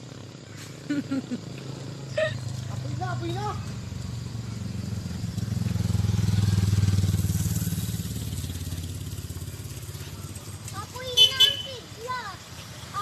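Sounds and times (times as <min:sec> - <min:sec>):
motorcycle passing by: 0:00.0 - 0:13.0.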